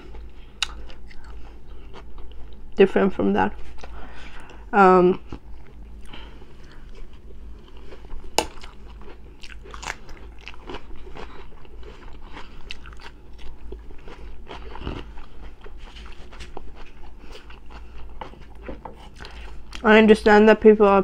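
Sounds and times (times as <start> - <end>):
close chewing and biting: 0.1 - 2.7, 5.2 - 19.9.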